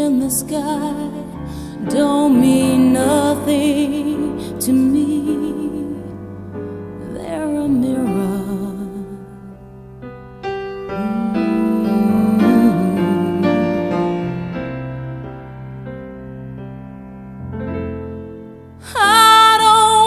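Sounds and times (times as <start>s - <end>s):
slow ballad electric piano: 0.0s - 20.0s.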